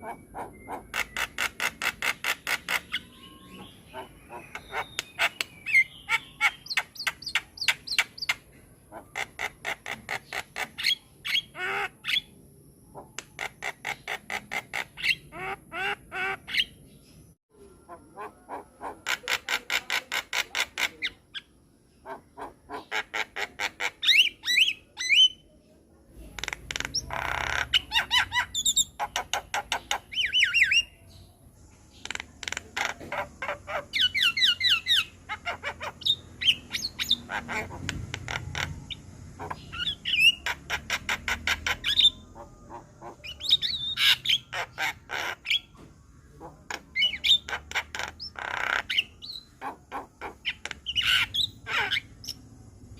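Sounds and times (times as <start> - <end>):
bird squawks: 0.0 - 12.3, 17.9 - 25.4, 26.4 - 31.0, 32.0 - 52.4.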